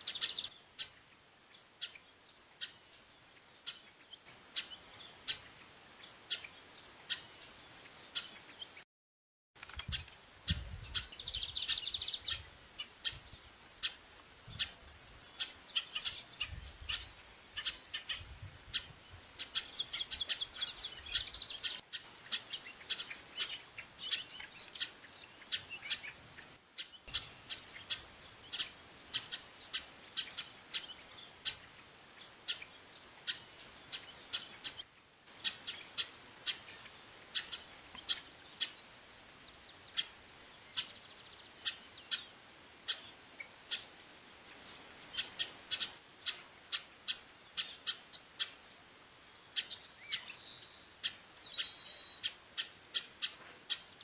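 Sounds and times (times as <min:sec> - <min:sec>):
high insect hum: 0:00.0 - 0:08.8, 0:09.6 - 0:54.0.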